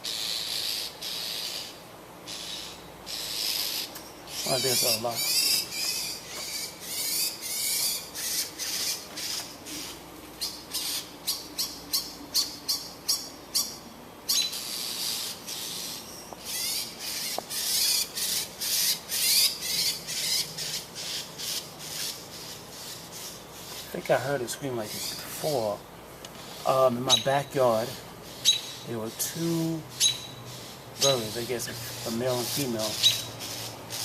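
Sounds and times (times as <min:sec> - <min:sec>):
bird screaming rasping calls: 0:00.0 - 0:34.0.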